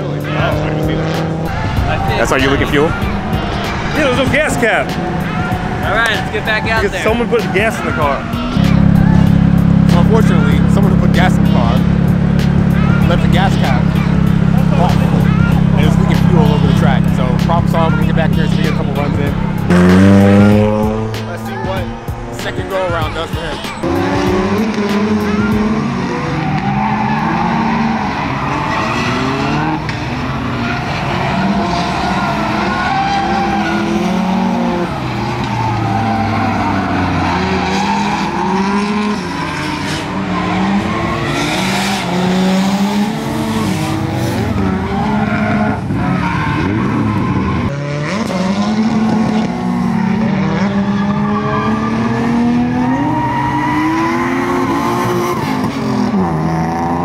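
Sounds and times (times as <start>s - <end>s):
car engine revving: 0.0s - 57.0s
tyres squealing: 1.4s - 47.8s, 49.6s - 56.3s.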